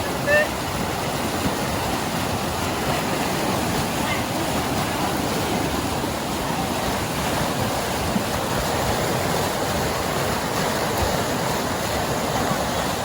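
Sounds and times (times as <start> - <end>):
fast-flowing stream water rushing: 0.0 - 13.0.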